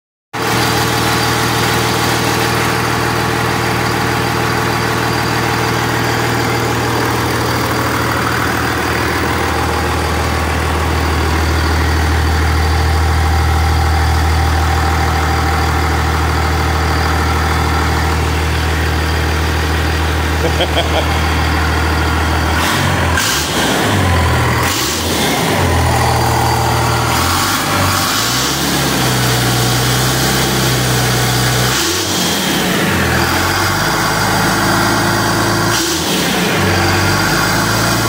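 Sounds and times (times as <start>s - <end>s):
diesel engine idling: 0.4s - 38.0s.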